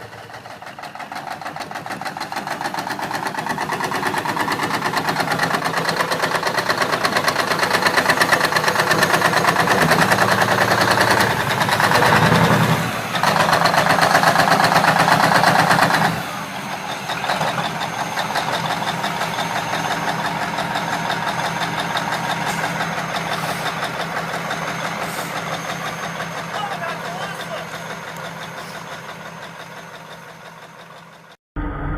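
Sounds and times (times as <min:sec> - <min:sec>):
large diesel engine running: 0:00.0 - 0:31.9.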